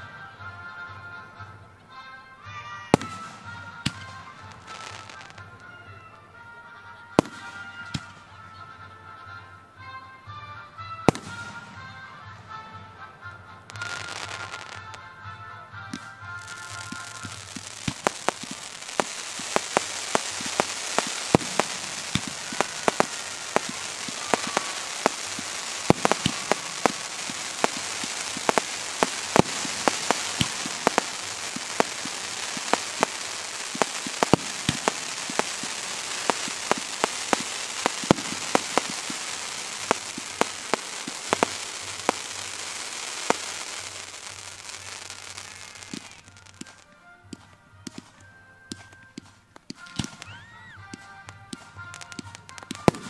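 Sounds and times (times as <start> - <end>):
fireworks crackling: 0.0 - 53.0
fireworks shells bursting: 1.8 - 8.7, 10.8 - 15.1, 15.8 - 53.0.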